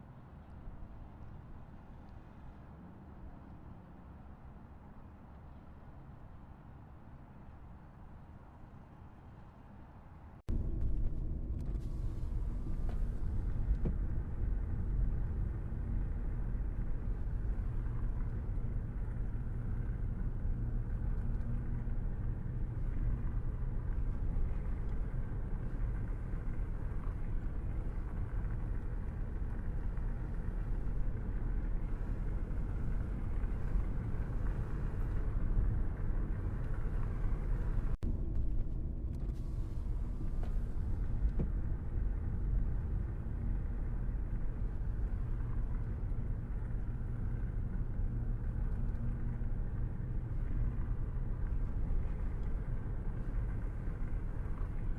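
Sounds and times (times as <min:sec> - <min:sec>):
car driving on road: 0:00.0 - 0:54.9.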